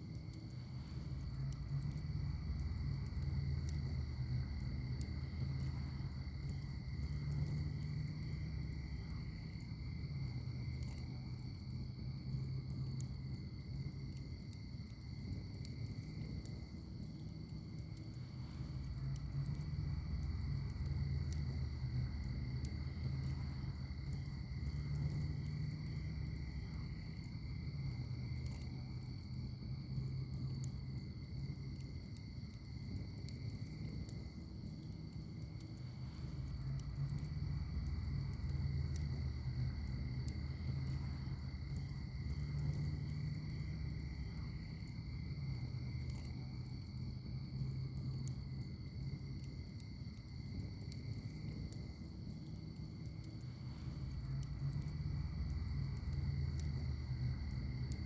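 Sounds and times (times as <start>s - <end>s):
wood fire crackling: 0.0s - 58.0s
insect trill: 0.2s - 58.0s.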